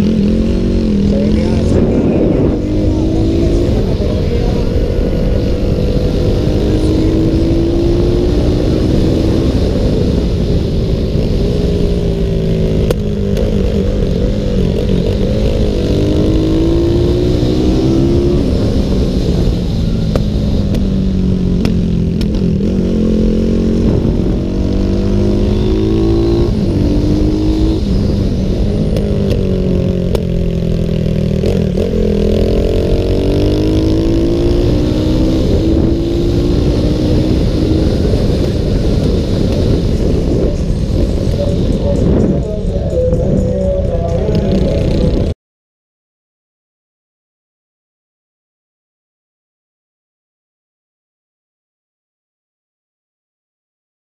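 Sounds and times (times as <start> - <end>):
motorcycle engine at high revs: 0.0 - 45.3
wind and road noise: 0.0 - 45.4.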